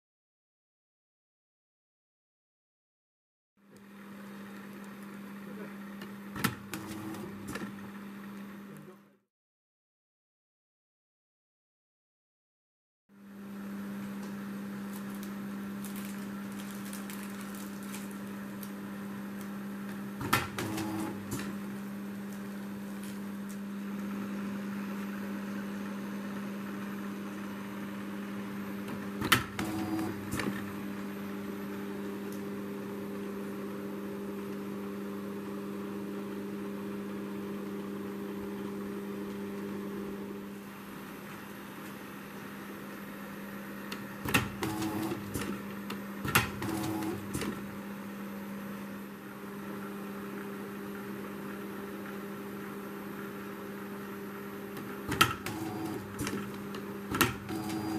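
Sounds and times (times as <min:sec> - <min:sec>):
electric motor hum: 0:03.7 - 0:09.2, 0:13.2 - 0:57.9.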